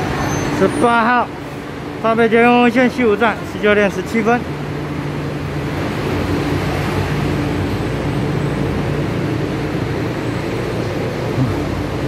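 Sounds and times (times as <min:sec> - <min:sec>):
metro car air conditioning hum: 0:00.0 - 0:12.0.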